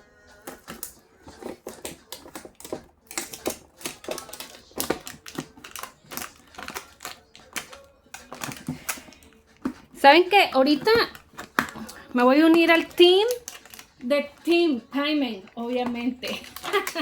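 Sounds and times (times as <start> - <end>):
packaging crinkling and rustling: 0.3 - 9.9, 10.6 - 14.5, 15.4 - 17.0.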